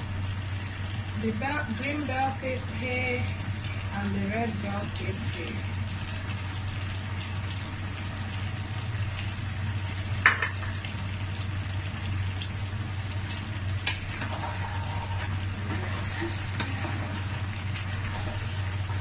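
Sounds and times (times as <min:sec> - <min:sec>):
porridge bubbling: 0:00.0 - 0:19.0.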